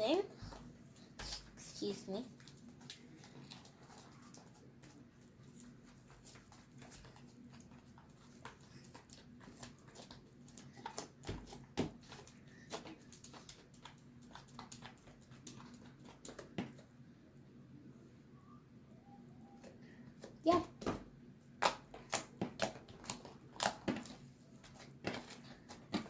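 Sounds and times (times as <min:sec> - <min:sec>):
low steady hum: 0:00.0 - 0:26.0
hands working sticky slime: 0:00.4 - 0:16.9, 0:21.6 - 0:26.0.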